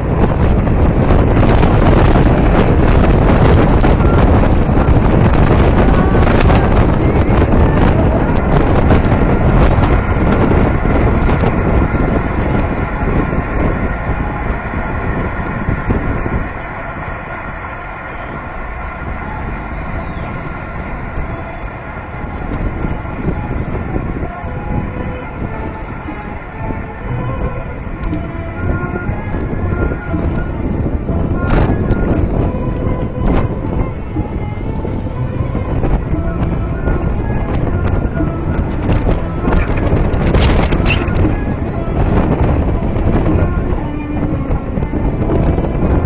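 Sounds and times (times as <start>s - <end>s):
car road and engine noise: 0.0s - 46.0s
steady hum: 0.0s - 46.0s
wind buffeting microphone: 0.0s - 46.0s.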